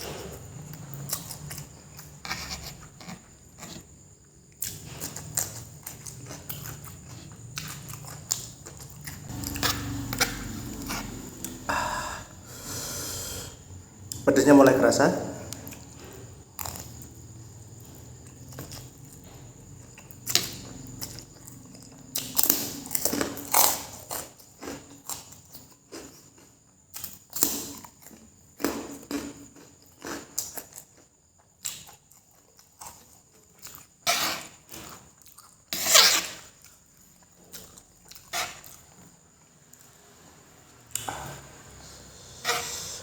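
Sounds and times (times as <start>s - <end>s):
person chewing and slurping noodles: 0.0s - 14.2s, 15.5s - 43.0s.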